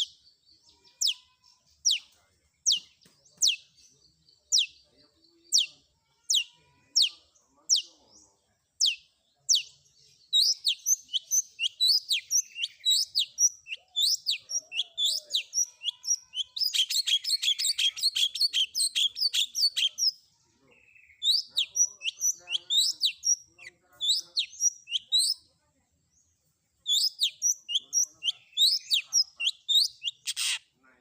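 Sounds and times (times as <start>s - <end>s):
bird singing sharp chirps: 0.0s - 25.5s, 26.1s - 30.8s.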